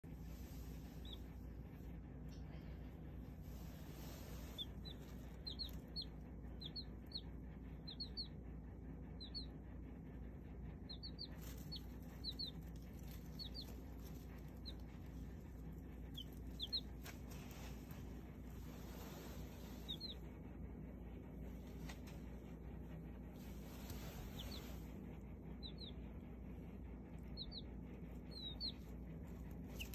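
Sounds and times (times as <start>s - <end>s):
baby chicks peeping: 0.2s - 29.9s.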